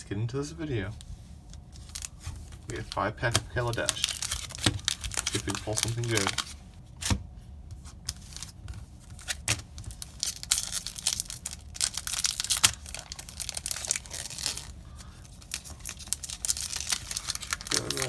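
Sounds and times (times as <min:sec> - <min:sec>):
foil wrapper tearing and crinkling: 0:01.7 - 0:06.6, 0:08.1 - 0:18.0.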